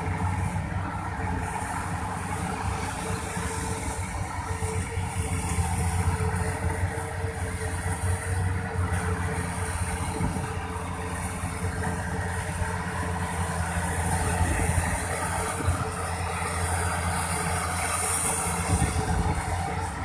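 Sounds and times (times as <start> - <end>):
excavator diesel engine droning: 0.0 - 20.0.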